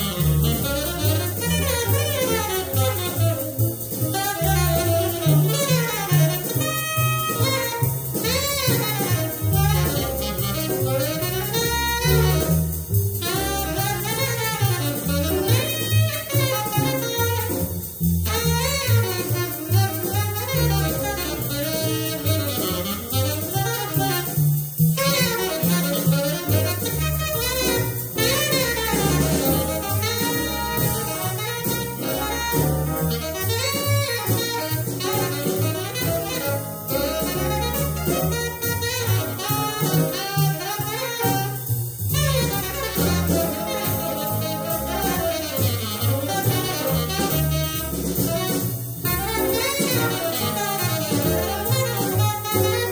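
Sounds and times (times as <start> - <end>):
drums: 0.0 - 52.9
tenor saxophone solo: 0.0 - 52.9
walking double bass: 0.0 - 52.9.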